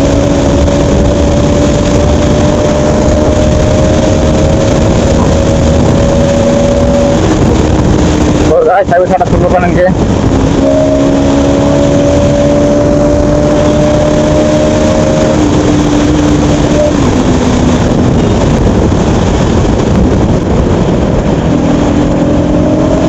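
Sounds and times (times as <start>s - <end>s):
motorcycle engine cruising: 0.0s - 23.0s
road and wind noise: 0.0s - 23.0s.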